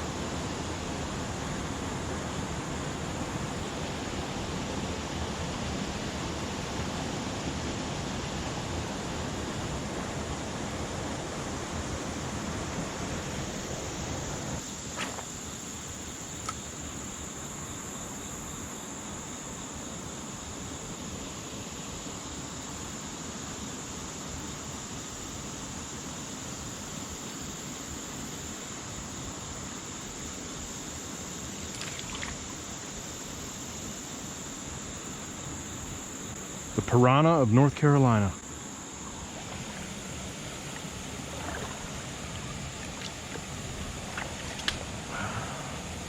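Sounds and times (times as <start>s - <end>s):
rushing river water: 0.0s - 18.4s, 19.0s - 46.0s
high insect drone: 0.0s - 46.0s.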